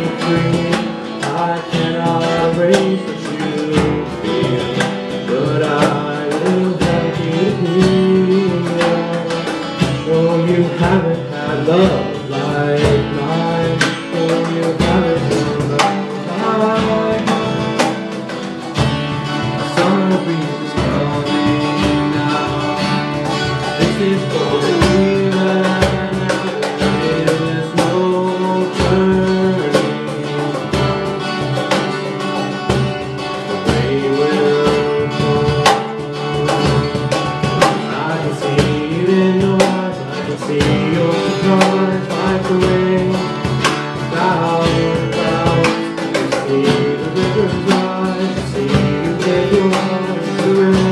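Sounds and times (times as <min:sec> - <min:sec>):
acoustic guitars: 0:00.0 - 0:50.9
cajon beat: 0:00.0 - 0:50.9
man singing: 0:00.0 - 0:50.9.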